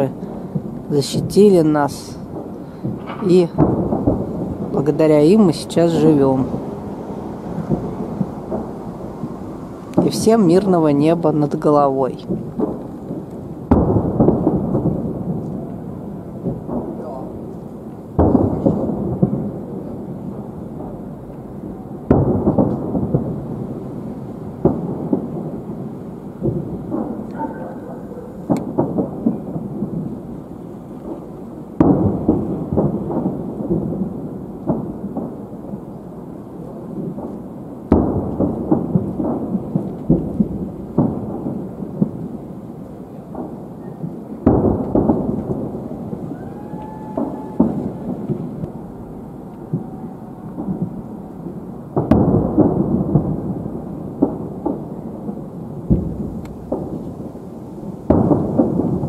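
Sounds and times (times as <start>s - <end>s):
distant fireworks booming: 0.0s - 59.0s
smaller firework bangs: 0.0s - 59.0s.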